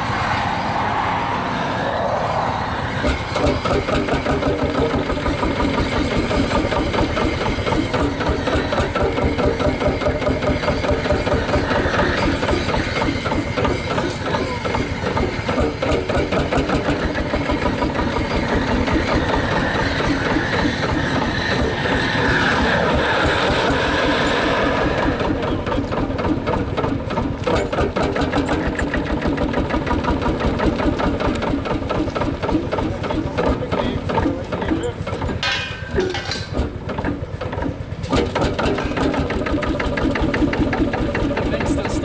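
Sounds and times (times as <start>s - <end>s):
two-stroke engine running: 3.0s - 42.0s.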